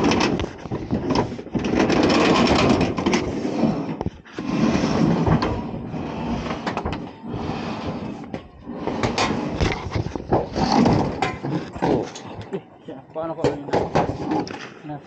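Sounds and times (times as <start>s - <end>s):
scraping on metal roof: 0.0s - 12.4s, 13.5s - 14.6s.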